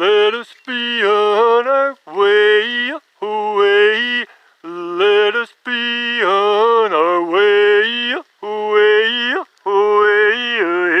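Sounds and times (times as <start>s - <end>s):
man chanting wordless vocables: 0.0s - 11.0s.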